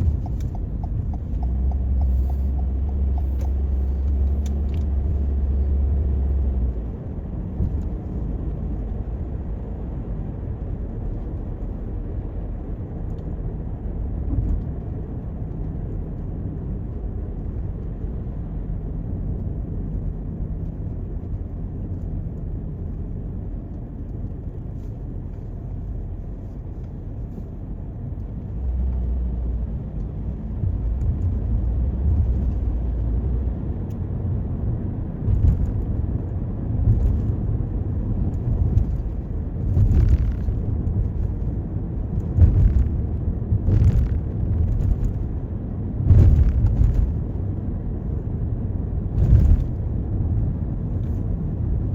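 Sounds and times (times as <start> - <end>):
car engine and tyre rumble: 0.0 - 51.9.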